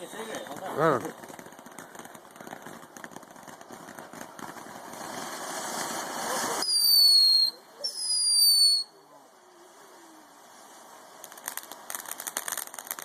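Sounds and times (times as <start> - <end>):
firework hissing: 0.0 - 13.0
shrill firework whistles: 1.8 - 13.0.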